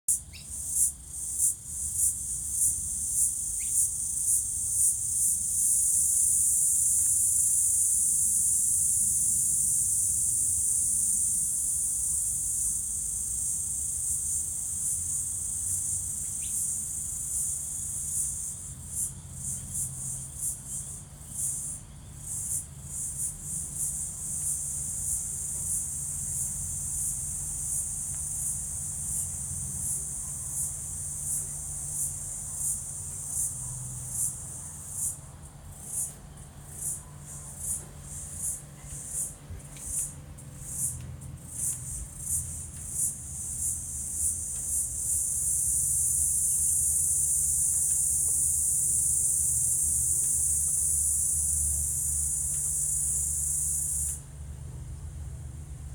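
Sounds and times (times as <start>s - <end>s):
crickets chirping: 0.1s - 55.9s.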